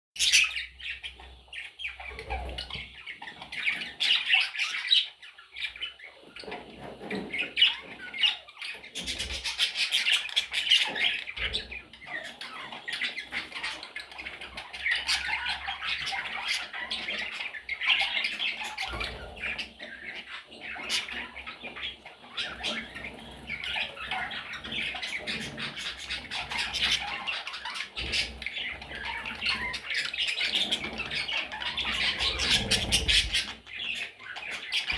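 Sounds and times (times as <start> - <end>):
parrots chattering and squawking: 0.2 - 34.9.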